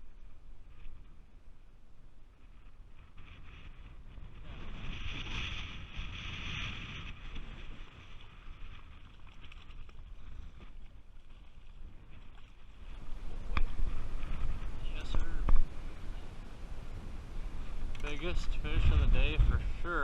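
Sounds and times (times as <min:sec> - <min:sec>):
choppy water against boat: 0:00.0 - 0:20.0
wind buffeting microphone: 0:00.0 - 0:20.0.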